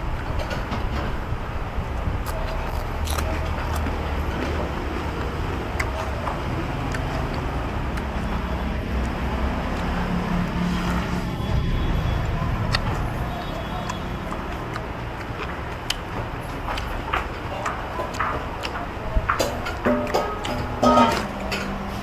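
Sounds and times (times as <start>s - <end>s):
vehicle engines rumbling past: 0.0s - 22.0s.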